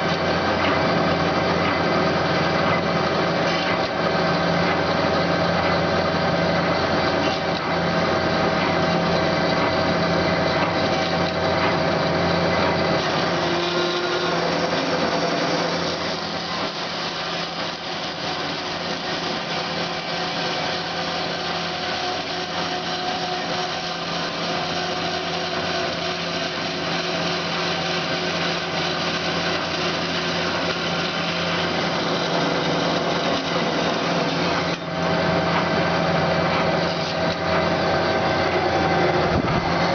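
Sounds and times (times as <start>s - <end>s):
bandsaw running: 0.0s - 39.9s.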